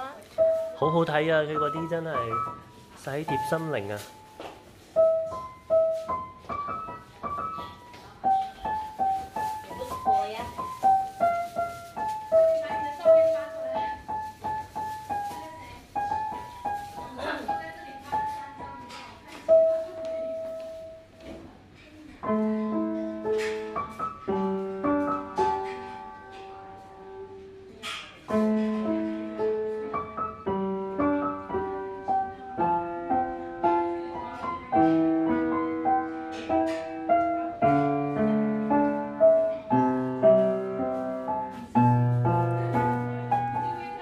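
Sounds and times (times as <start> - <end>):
solo piano melody: 0.0 - 44.0.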